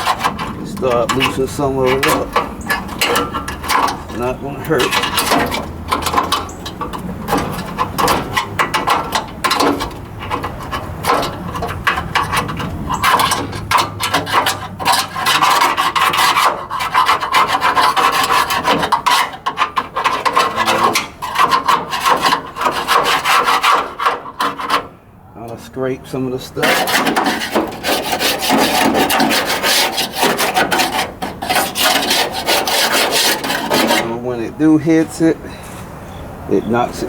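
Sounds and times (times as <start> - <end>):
scraper rasping on metal: 0.0 - 25.0, 25.7 - 34.8.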